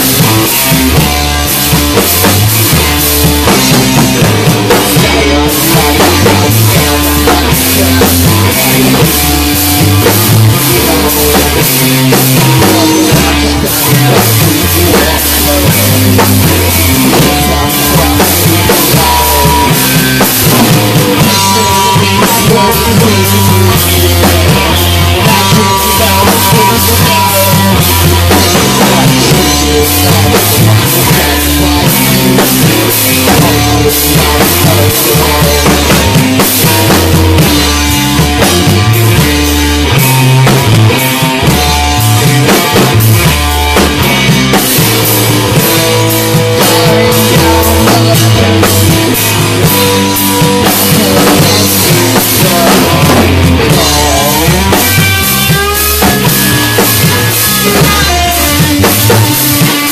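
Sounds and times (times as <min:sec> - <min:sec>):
bass line: 0:00.0 - 0:59.9
drum kit beat: 0:00.0 - 0:59.9
rock band playing: 0:00.0 - 0:59.9.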